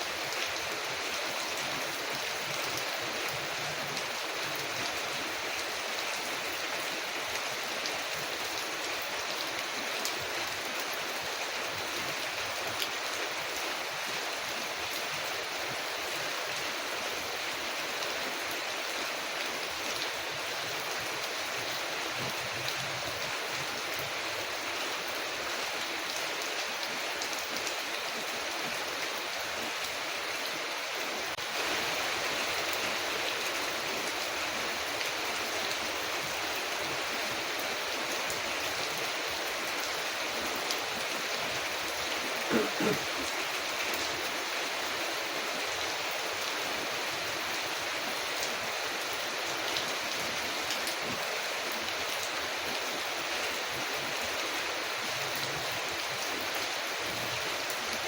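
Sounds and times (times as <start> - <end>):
rain on a window: 0.1 - 58.0.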